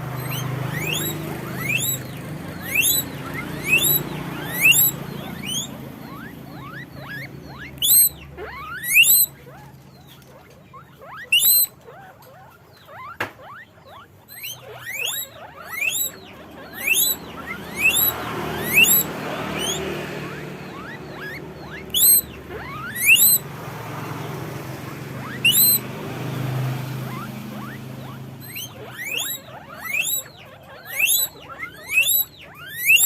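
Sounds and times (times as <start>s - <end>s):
guinea pigs squeaking: 0.0s - 33.0s.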